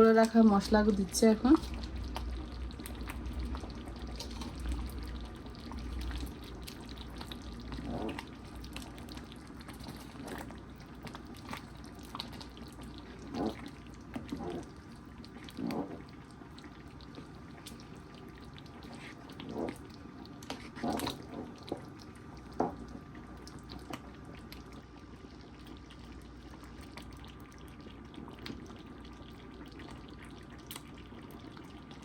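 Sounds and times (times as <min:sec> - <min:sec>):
thick food bubbling in pot: 0:00.0 - 0:32.0.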